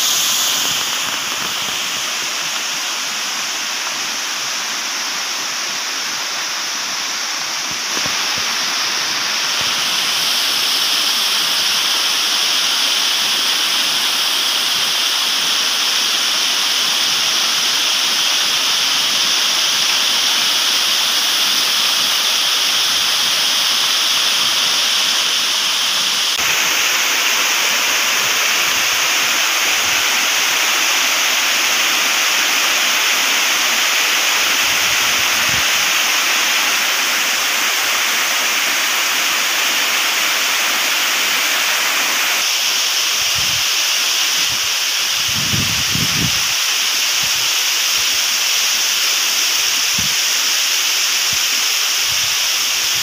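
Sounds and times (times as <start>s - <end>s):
waterfall pouring down rock: 0.0s - 53.0s.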